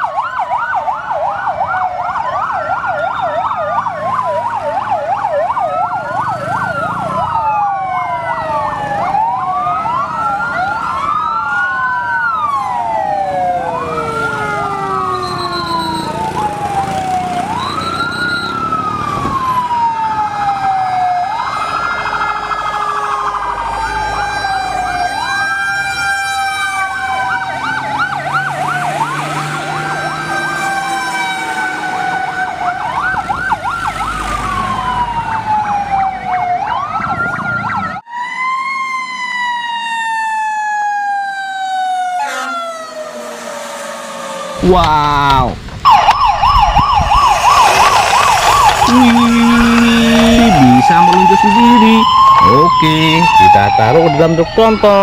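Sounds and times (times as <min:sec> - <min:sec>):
fire engine sirens wailing: 0:00.0 - 0:55.0.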